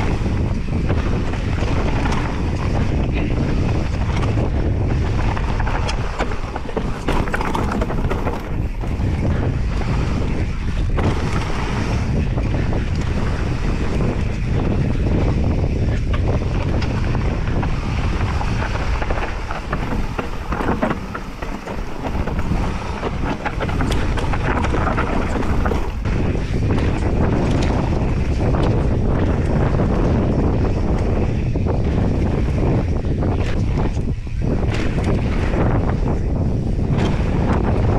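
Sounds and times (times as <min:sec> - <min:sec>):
bike rattling clicks: 0:00.0 - 0:37.9
tyres rumbling on dirt: 0:00.0 - 0:37.9
wind buffeting microphone: 0:00.0 - 0:37.9.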